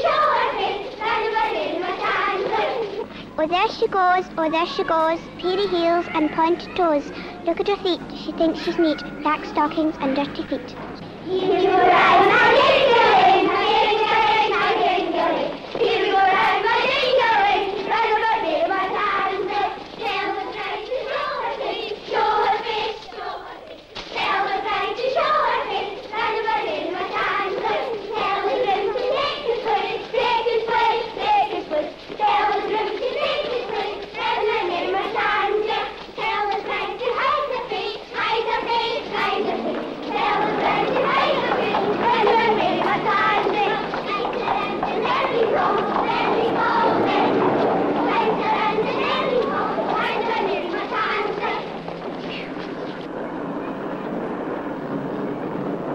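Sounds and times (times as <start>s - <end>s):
children singing: 0.0s - 3.1s, 8.5s - 52.4s.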